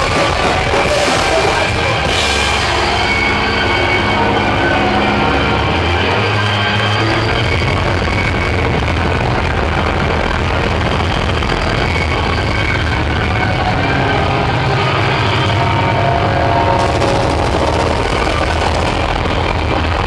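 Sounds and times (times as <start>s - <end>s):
distorted live band playing: 0.0s - 20.0s.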